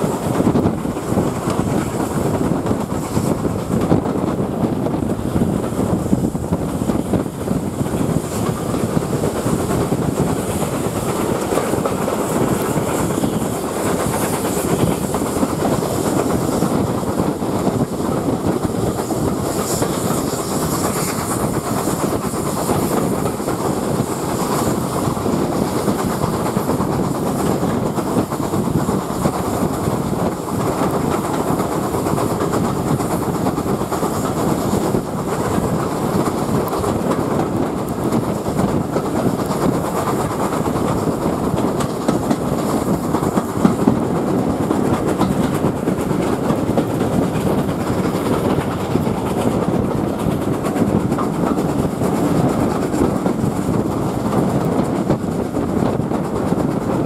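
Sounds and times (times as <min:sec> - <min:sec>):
steam locomotives working: 0:00.0 - 0:57.0
train wheels on rails: 0:00.0 - 0:57.0.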